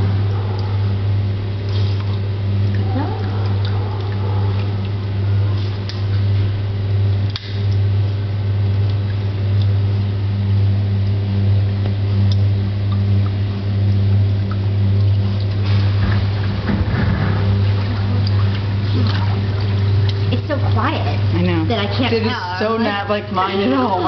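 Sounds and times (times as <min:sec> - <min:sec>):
light water splashes: 0:00.0 - 0:06.6, 0:11.0 - 0:24.0
motor and pump humming: 0:00.0 - 0:24.0.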